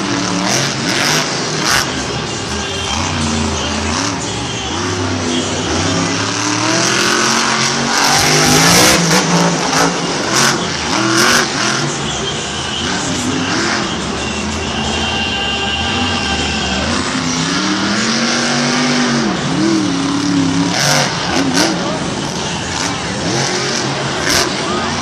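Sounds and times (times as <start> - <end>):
monster truck engine revving: 0.0 - 15.1, 15.8 - 25.0.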